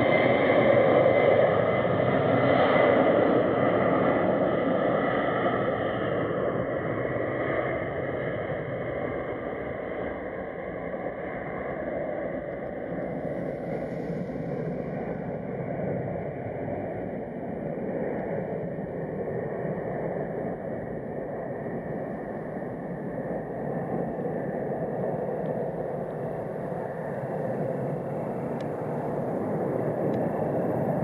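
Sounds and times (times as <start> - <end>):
high jet engine whine: 0.0 - 31.0
jet engines rumbling: 0.0 - 31.0.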